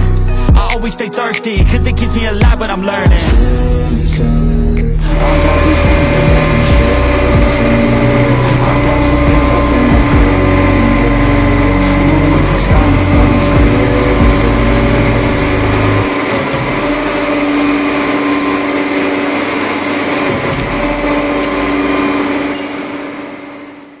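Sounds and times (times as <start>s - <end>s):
deep rumble: 1.6s - 22.5s
pump machinery whine and hum: 3.2s - 24.0s.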